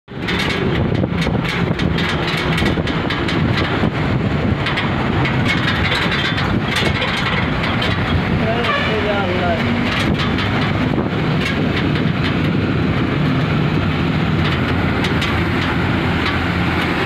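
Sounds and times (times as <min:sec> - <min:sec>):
road noise: 0:00.0 - 0:17.0
short rattles: 0:00.1 - 0:17.0
truck engine drone: 0:00.1 - 0:17.0.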